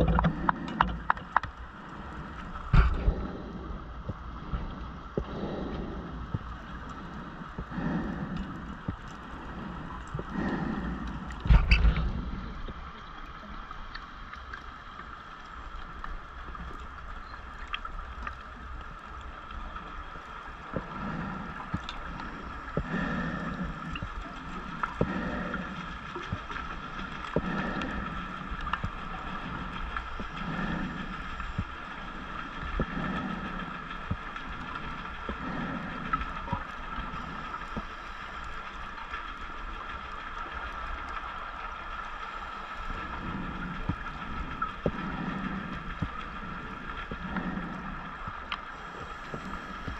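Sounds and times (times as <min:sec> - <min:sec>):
faint underwater hum: 0:00.0 - 0:49.9
scuba exhaust bubbles gurgling: 0:00.0 - 0:49.9.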